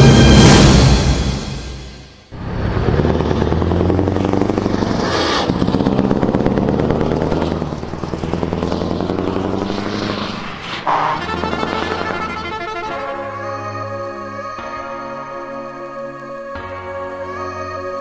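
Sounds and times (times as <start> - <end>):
loud intro music: 0.0 - 4.8, 6.2 - 18.0
diesel truck engine: 0.0 - 18.0.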